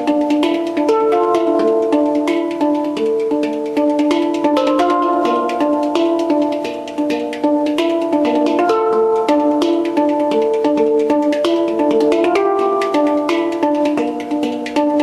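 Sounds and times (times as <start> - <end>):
light ticking beat: 0.0 - 15.0
pitched melody: 0.0 - 15.0.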